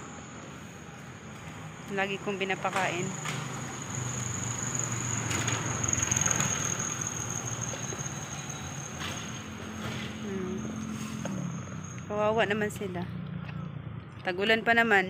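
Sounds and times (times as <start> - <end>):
high-pitched whine: 0.0 - 13.2.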